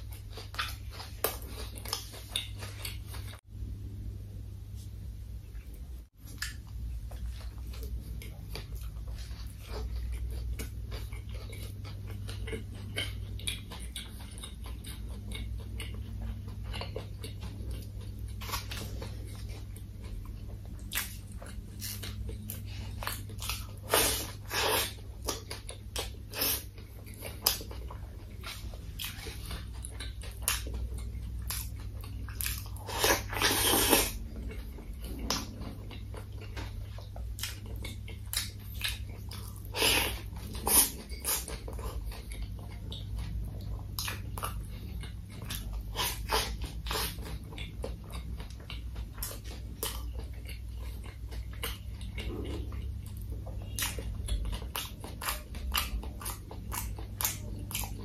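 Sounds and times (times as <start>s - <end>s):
person chewing burger: 0.0s - 3.4s, 5.6s - 58.0s
biting and crunching: 6.2s - 58.0s.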